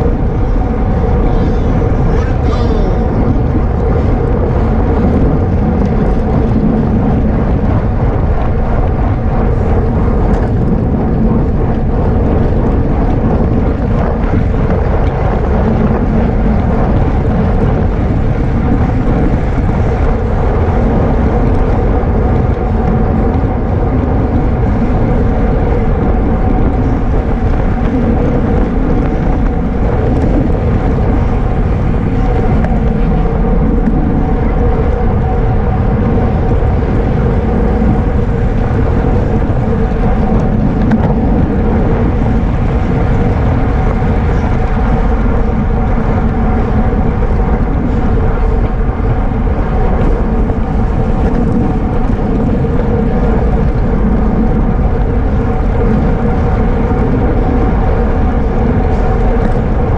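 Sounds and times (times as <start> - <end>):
constant hum: 0.0 - 59.9
wind rushing over microphone: 0.0 - 59.9.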